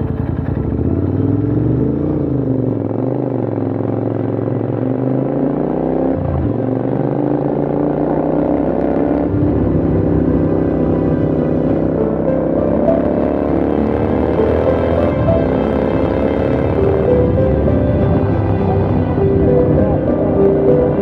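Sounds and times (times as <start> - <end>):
motorcycle engine revving uphill: 0.0 - 21.0.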